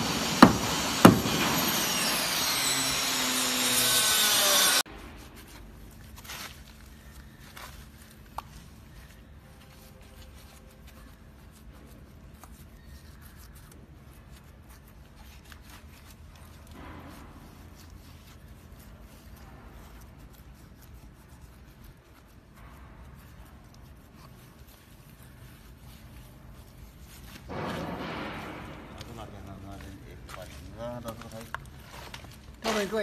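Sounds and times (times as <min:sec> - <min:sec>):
hands rubbing and scraping: 0:04.0 - 0:33.0.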